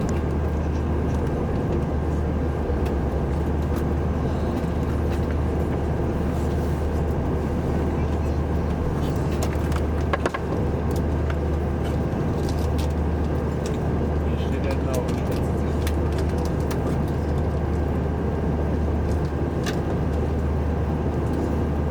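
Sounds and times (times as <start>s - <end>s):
airliner engines droning: 0.0s - 21.9s.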